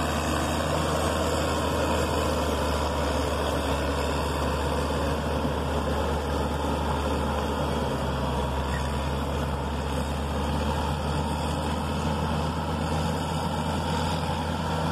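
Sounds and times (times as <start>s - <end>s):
diesel engine running under load: 0.0s - 14.9s.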